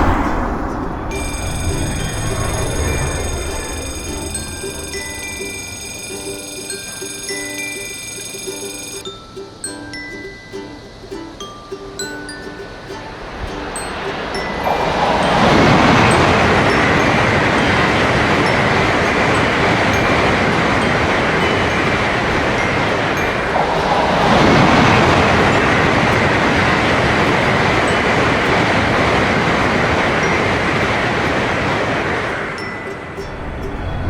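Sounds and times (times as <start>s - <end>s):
thin high tone: 0.0s - 28.7s, 32.3s - 34.0s
train passing: 0.0s - 34.0s.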